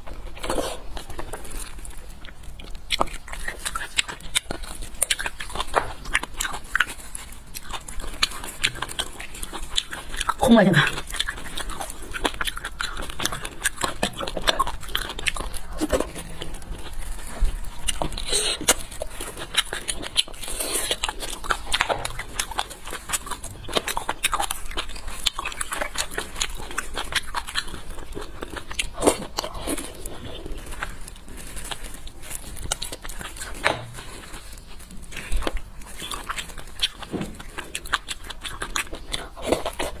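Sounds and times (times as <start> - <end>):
wet mouth smacking and slurping: 2.1 - 40.0.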